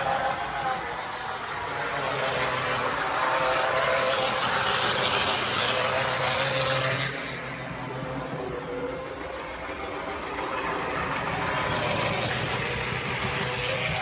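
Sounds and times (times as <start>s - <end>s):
model train motor whining: 0.0s - 14.0s
wheels rattling over rail joints: 0.0s - 14.0s.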